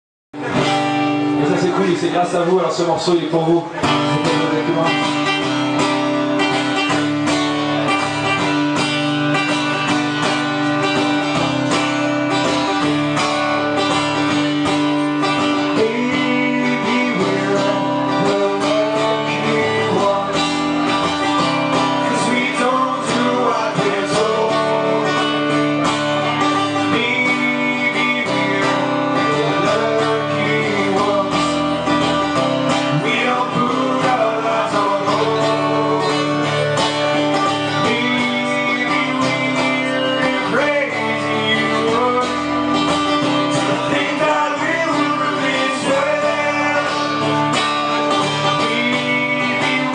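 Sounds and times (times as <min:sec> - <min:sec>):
electric guitars: 0:00.4 - 0:49.9
punk rock band playing live: 0:00.4 - 0:49.9.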